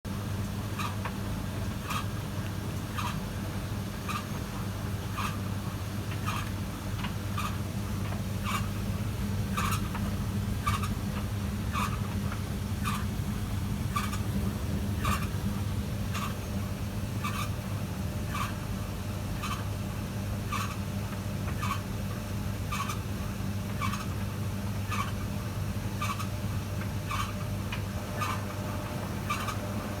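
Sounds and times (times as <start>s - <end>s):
tumble dryer humming: 4.7s - 20.5s, 21.1s - 30.0s.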